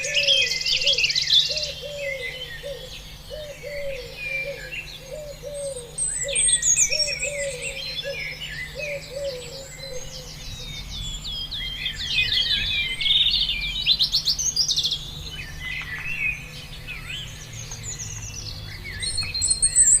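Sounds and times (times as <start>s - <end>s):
birds singing and chirping: 0.0s - 20.0s.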